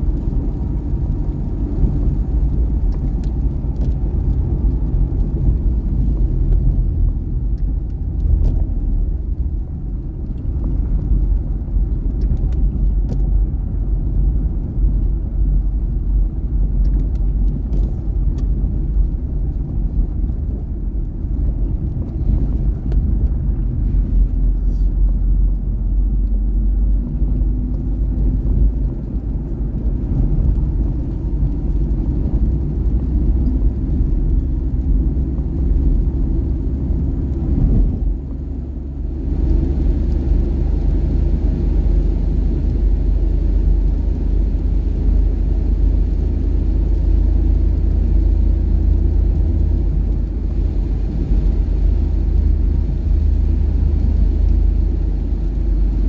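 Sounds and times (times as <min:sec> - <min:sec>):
car engine rumble: 0:00.0 - 0:56.0
tyres on wet road: 0:00.0 - 0:56.0.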